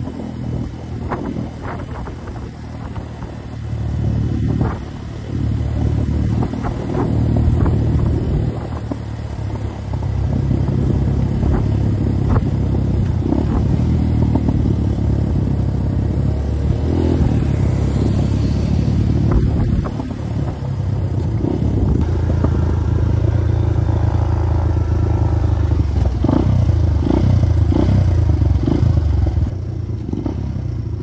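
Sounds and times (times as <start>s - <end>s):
motorcycle engine running: 0.0s - 31.0s
wind rumble: 0.0s - 31.0s.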